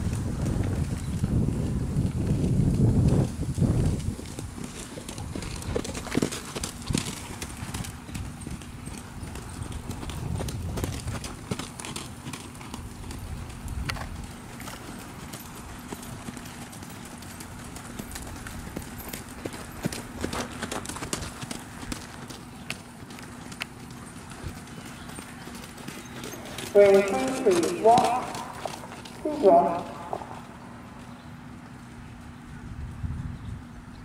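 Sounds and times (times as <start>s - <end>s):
hoofbeats on sand: 0.0s - 30.5s.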